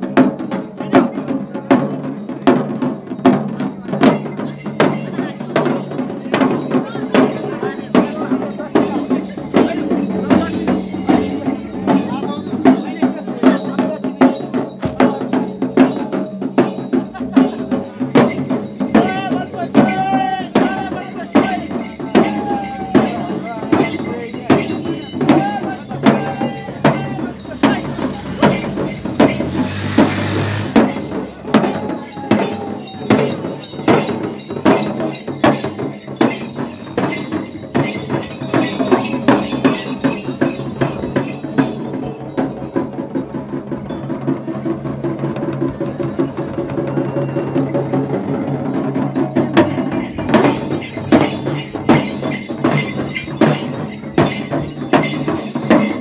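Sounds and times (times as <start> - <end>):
bells jingling: 0.0 - 56.0
frame drums beaten with sticks: 0.0 - 56.0.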